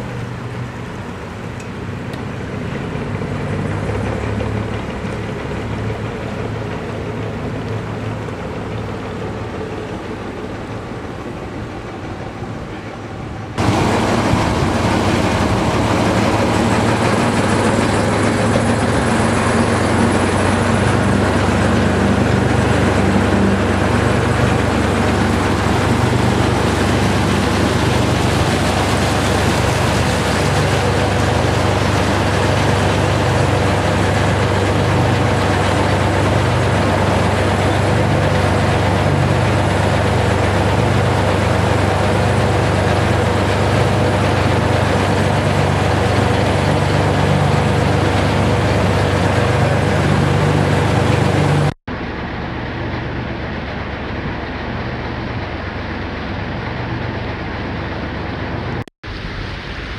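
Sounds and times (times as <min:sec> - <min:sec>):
boat diesel engine running: 0:00.0 - 0:59.9
wake rushing: 0:00.0 - 0:59.9.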